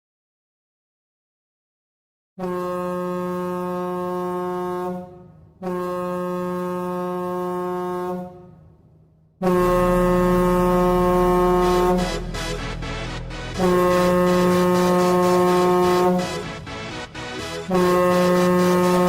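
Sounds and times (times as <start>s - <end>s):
goal horn blasts: 2.4s - 8.5s, 9.4s - 19.0s.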